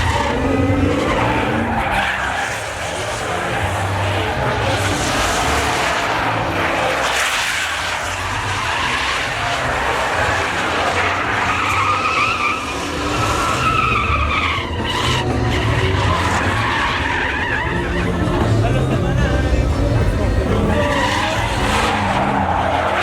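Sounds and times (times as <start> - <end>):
tyres squealing and hissing: 0.0 - 19.6, 20.2 - 23.0
truck engine running hard: 0.0 - 23.0.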